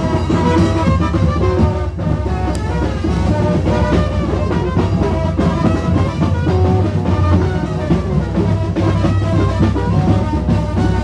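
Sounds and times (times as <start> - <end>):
procession drumming: 0.0 - 11.0.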